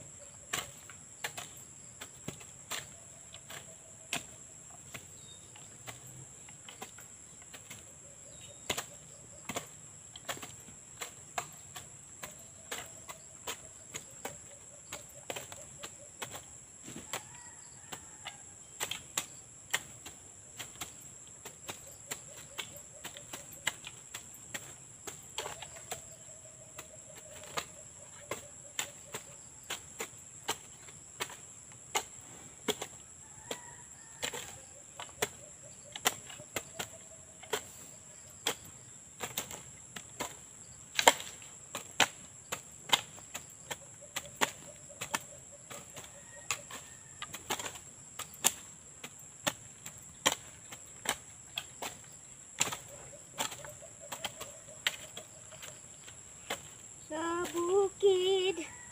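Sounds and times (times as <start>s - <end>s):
hoes striking soil: 0.0s - 58.9s.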